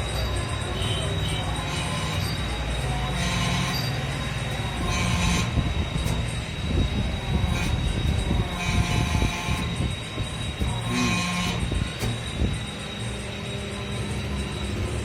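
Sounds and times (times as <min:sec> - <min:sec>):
machinery rumbling: 0:00.0 - 0:15.0
thin high whine: 0:00.0 - 0:15.0.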